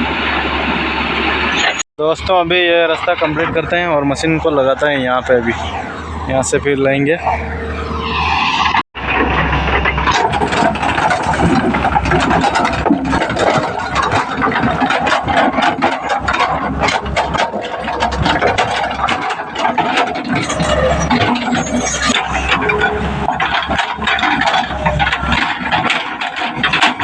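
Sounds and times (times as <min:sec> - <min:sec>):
excavator engine running: 0:00.0 - 0:27.0
rattling and clanking: 0:00.0 - 0:27.0.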